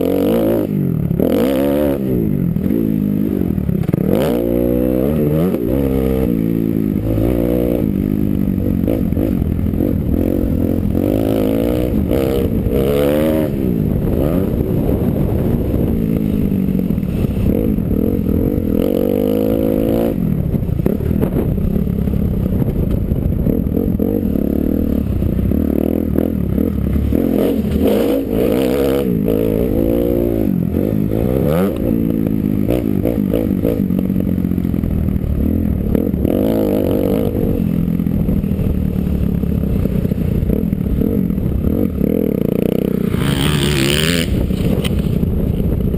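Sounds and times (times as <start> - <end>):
dirt bike engine revving: 0.0 - 45.2.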